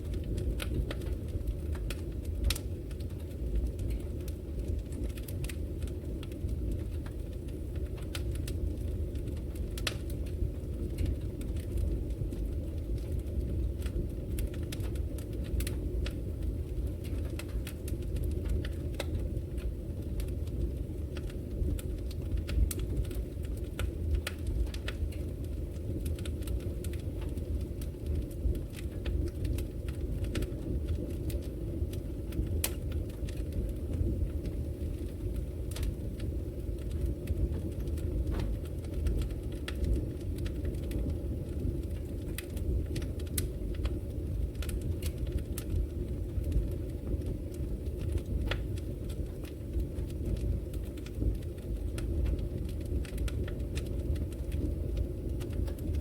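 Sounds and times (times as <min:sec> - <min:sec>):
fire rumbling: 0:00.0 - 0:56.0
wood crackling and popping: 0:00.0 - 0:56.0.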